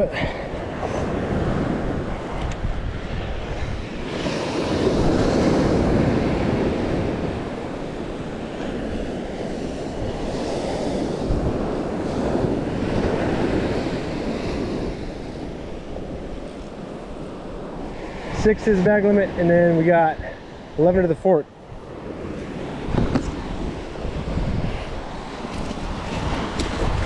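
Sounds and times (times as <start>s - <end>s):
surf washing up a sandy beach: 0.0s - 27.0s
wind buffeting microphone: 0.0s - 27.0s.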